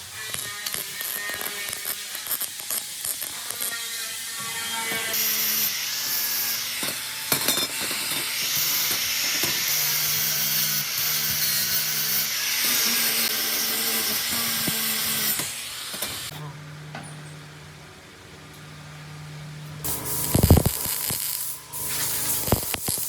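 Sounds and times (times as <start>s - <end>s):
power tool running: 0.0s - 16.3s, 19.8s - 23.0s.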